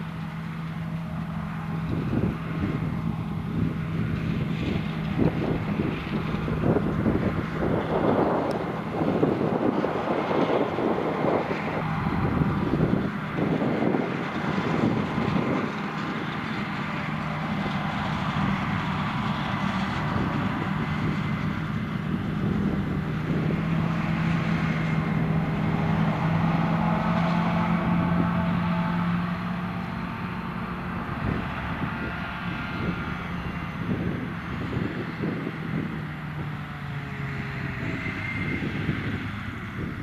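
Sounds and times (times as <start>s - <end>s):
diesel engine running: 0.0s - 40.0s
wind buffeting microphone: 0.0s - 40.0s.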